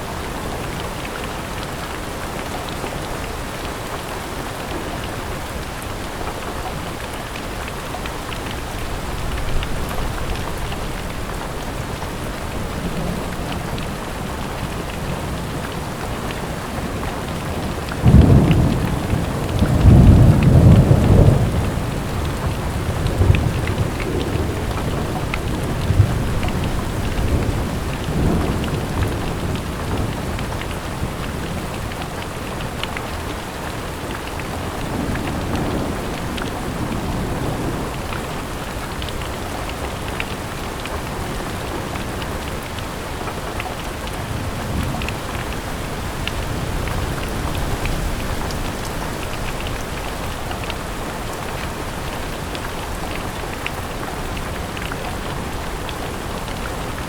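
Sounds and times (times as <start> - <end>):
rain on a window: 0.0 - 57.0
raindrop ticks: 5.8 - 57.0.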